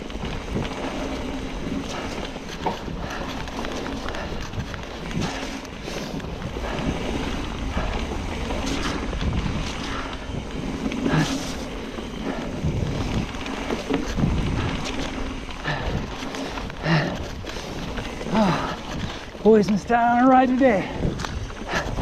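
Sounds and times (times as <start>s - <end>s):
bike tyres on wet trail: 0.0s - 22.0s
wind buffeting microphone: 0.0s - 22.0s.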